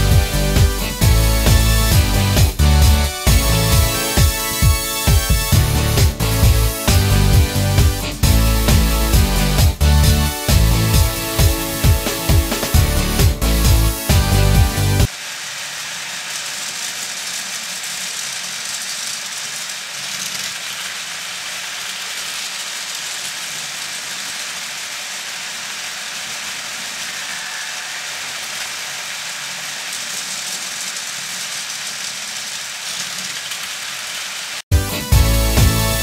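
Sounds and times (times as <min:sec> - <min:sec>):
toy train motor running: 0:00.0 - 0:34.6.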